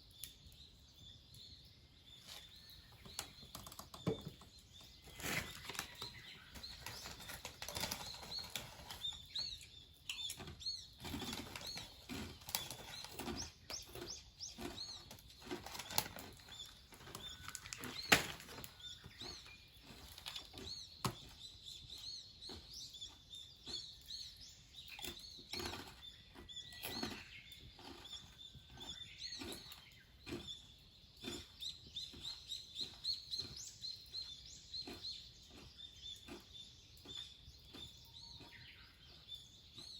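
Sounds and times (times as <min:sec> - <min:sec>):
small birds chirping: 0:00.0 - 0:39.9
sharp clicks and crackles: 0:03.0 - 0:38.6.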